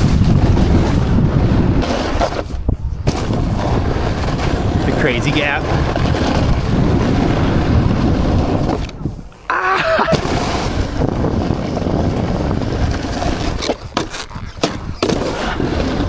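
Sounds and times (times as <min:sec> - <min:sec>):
sliding over snow: 0:00.0 - 0:16.0
wind rushing on microphone: 0:00.0 - 0:16.0.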